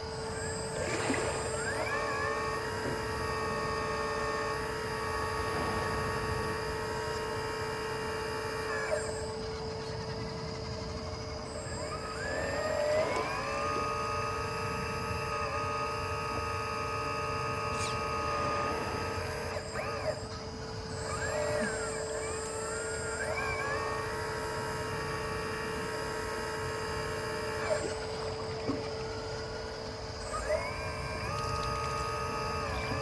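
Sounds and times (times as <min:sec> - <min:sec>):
hydraulic pump hum and whine: 0:00.0 - 0:33.0.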